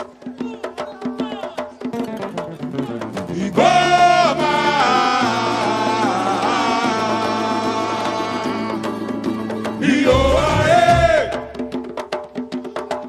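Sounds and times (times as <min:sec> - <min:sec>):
samba percussion: 0:00.0 - 0:13.0.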